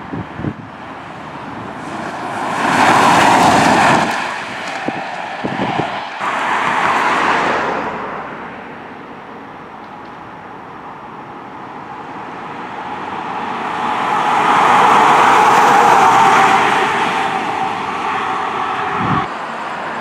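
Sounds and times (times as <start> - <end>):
vehicles driving past: 0.0 - 20.0.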